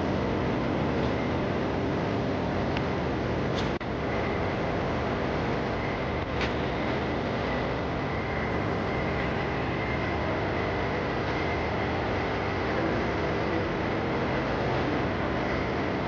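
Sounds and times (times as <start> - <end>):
faint high hum: 0.0 - 16.0
steady rushing noise: 0.0 - 16.0.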